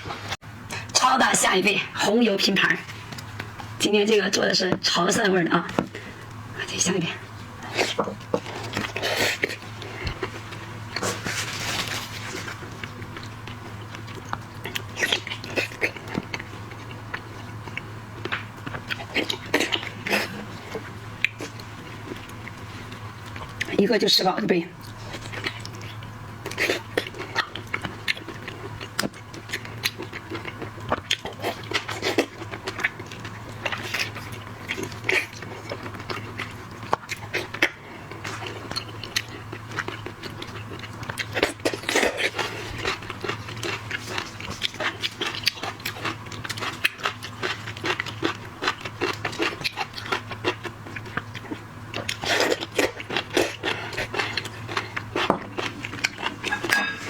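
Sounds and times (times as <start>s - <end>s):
steady low hum: 0.0s - 57.0s
chewing and biting shellfish: 7.4s - 23.8s, 24.8s - 57.0s.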